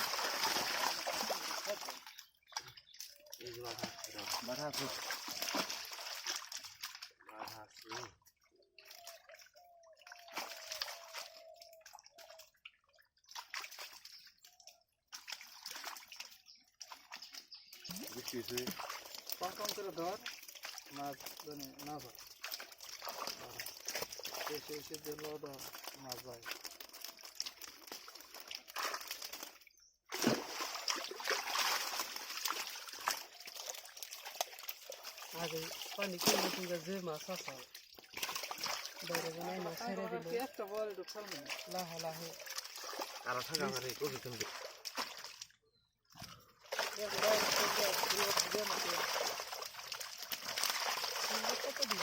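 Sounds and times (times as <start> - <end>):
shallow water sloshing and splashing: 0.0 - 52.0.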